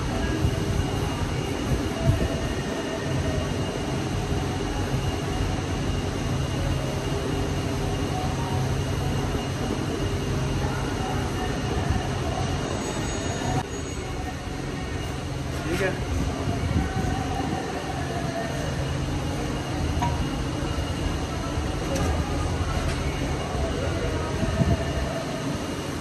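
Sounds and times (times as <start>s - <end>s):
workshop machinery humming: 0.0s - 26.0s.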